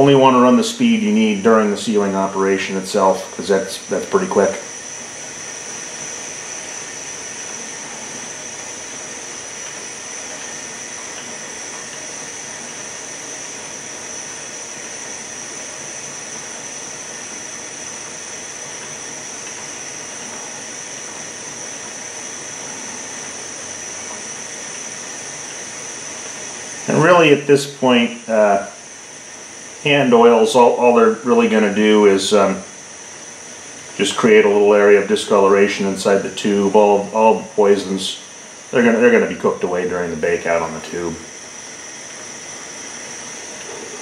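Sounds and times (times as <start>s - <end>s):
gas torch flames hissing: 0.0s - 44.0s
lathe high whine: 0.0s - 44.0s.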